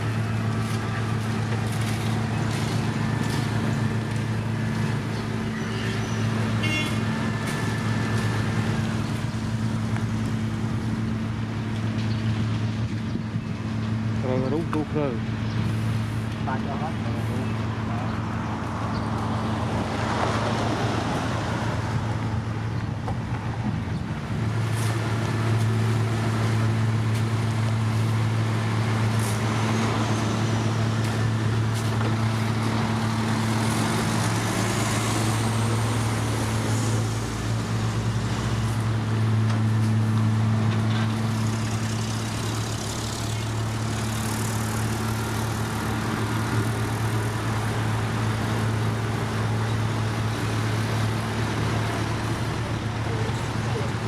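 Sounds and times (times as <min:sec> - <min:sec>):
diesel machinery engine hum: 0:00.0 - 0:54.0.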